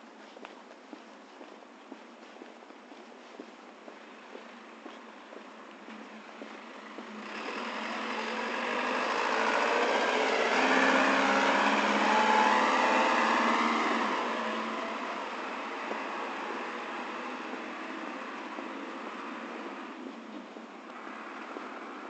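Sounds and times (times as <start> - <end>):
truck engine and tyres passing: 4.0 - 22.0.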